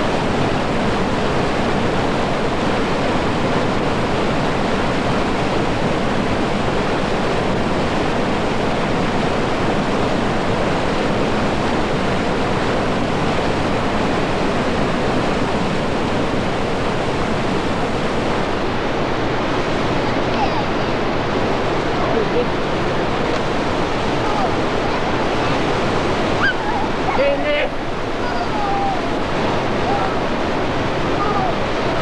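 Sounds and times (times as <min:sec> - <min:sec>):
river rapids rushing: 0:00.0 - 0:32.0.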